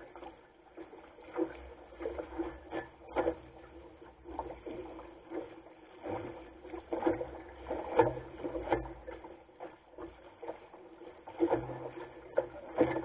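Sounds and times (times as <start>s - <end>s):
water splashing against boat bow: 0.0s - 13.0s.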